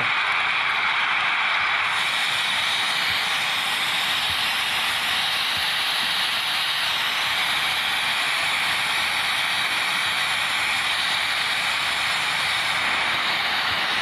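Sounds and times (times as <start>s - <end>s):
steady treble hiss from phone speaker: 1.7s - 14.0s.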